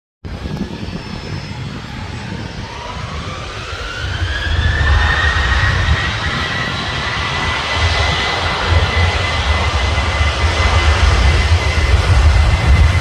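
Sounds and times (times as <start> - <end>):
jet engines whining: 0.3 - 13.0
low rumble: 0.3 - 13.0.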